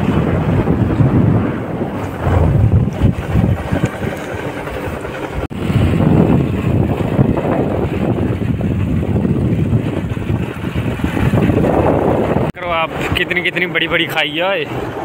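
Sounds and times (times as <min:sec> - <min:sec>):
motorcycle engine running: 0:00.0 - 0:12.5
road noise: 0:00.0 - 0:15.0
wind buffeting microphone: 0:00.0 - 0:15.0.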